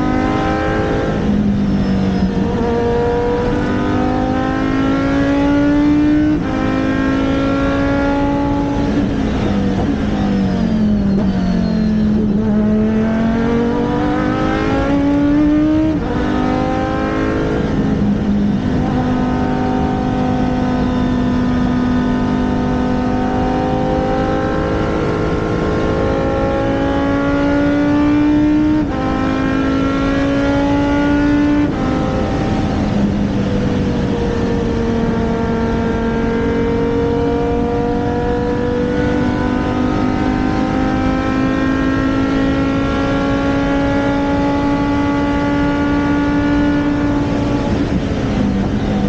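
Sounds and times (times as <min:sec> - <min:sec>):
race car engine accelerating: 0:00.0 - 0:49.0.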